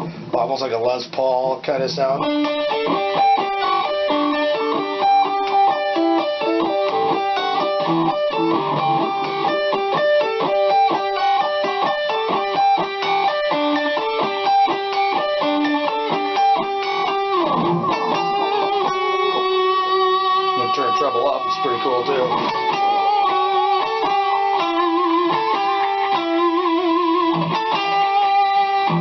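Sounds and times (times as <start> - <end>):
distorted electric guitar lead: 0.0 - 0.4, 1.5 - 29.0.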